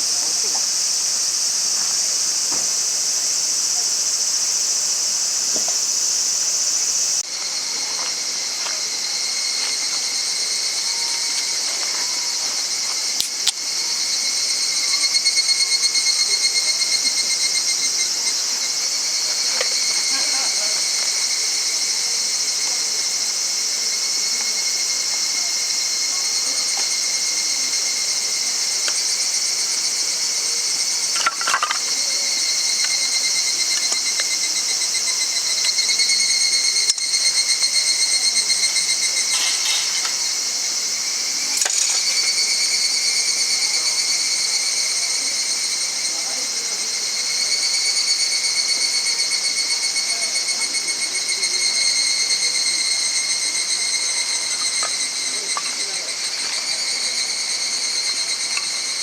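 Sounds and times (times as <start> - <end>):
insects chirping: 0.0 - 59.0.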